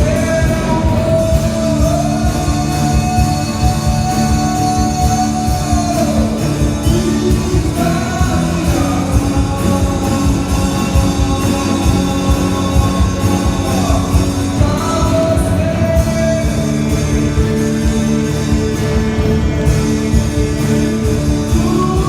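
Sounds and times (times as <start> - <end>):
drum beat: 0.0 - 22.0
guitar: 0.0 - 22.0
person singing: 0.0 - 22.0
rock band playing: 0.0 - 22.0.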